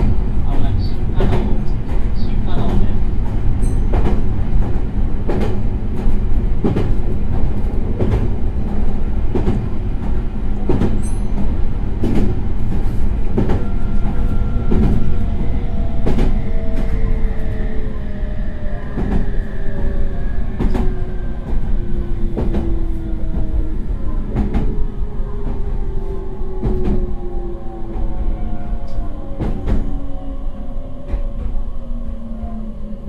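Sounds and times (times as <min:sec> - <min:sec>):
electric train rumble: 0:00.0 - 0:33.0.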